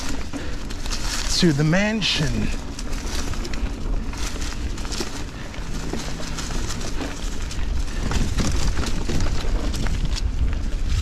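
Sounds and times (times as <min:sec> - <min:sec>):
bike clicks and rattles: 0:00.0 - 0:11.0
wind noise on microphone: 0:00.0 - 0:11.0.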